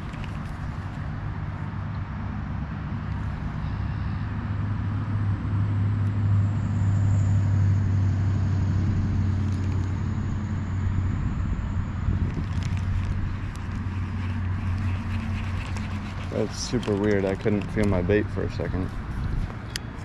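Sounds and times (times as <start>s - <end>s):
low hum of traffic: 0.0s - 20.0s.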